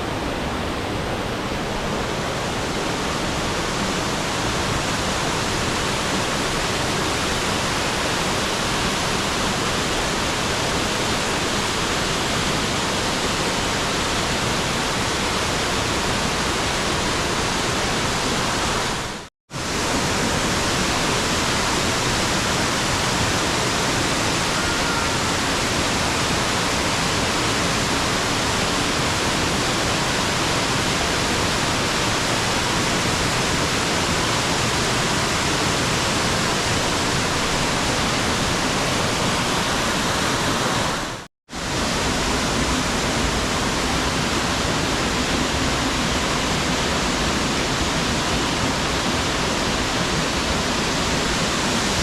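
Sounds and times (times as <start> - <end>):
stream rushing over rocks: 0.0 - 52.0.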